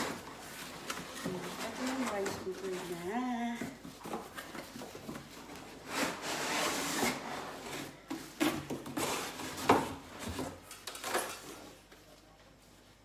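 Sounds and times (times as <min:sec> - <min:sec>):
cardboard and plastic rustling: 0:00.0 - 0:12.2.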